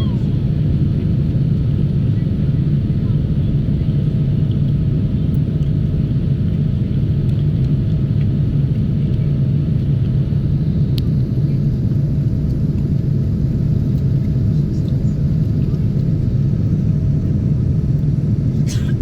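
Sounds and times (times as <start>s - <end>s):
jet engines and airflow rumble: 0.0s - 19.0s.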